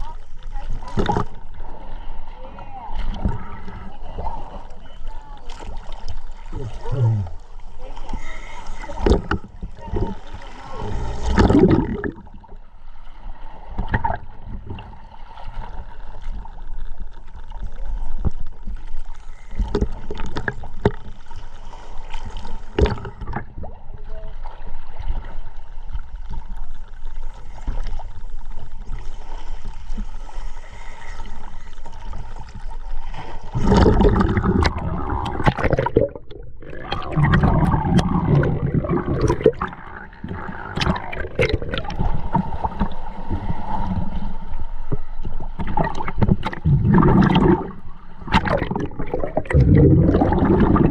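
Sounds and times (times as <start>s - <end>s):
underwater bubbles gurgling: 0.0s - 50.9s.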